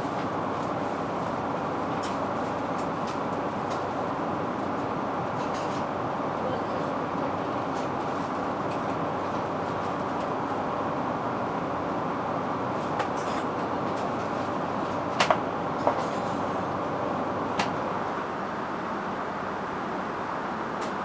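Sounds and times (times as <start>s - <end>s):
airplane cabin noise: 0.0s - 21.0s.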